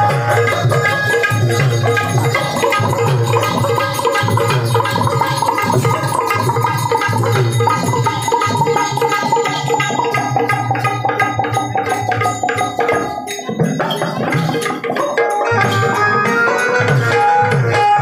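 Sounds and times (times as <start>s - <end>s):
electronic keyboard: 0.0s - 13.6s, 14.3s - 18.0s
dholak drum beating: 0.0s - 18.0s.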